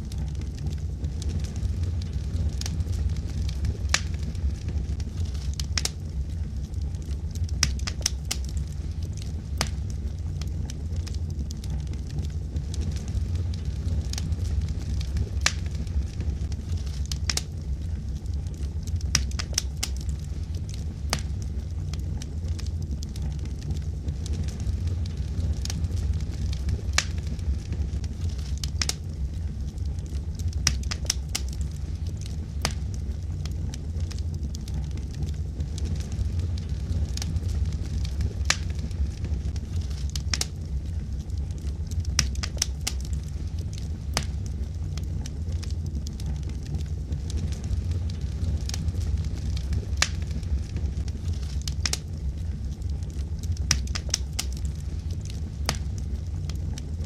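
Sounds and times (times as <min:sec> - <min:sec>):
fire crackling and popping: 0:00.0 - 0:57.0
fire rumbling: 0:00.0 - 0:57.0.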